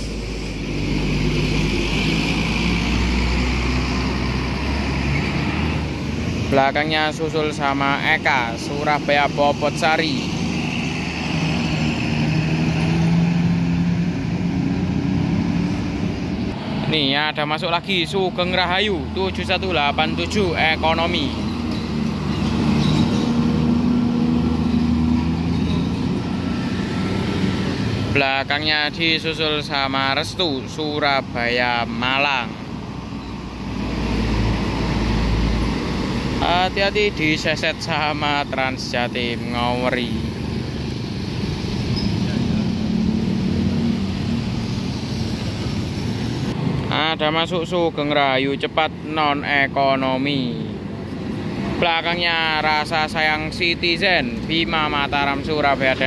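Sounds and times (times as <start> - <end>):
bus diesel engine passing: 0.0 - 56.0.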